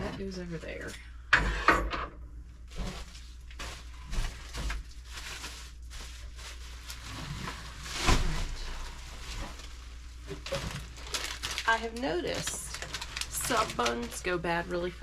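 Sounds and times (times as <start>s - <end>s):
food packages rustling: 2.6s - 15.0s.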